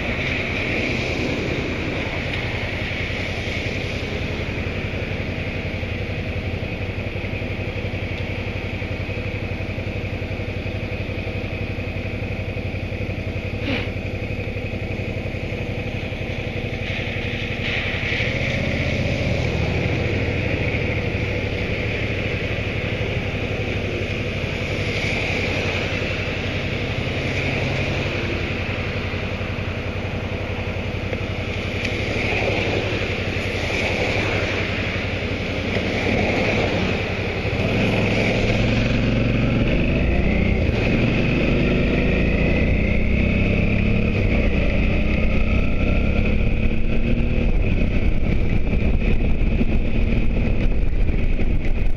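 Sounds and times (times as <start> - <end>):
motorcycle engine accelerating: 0.0 - 51.9
wind and road noise: 0.0 - 51.9.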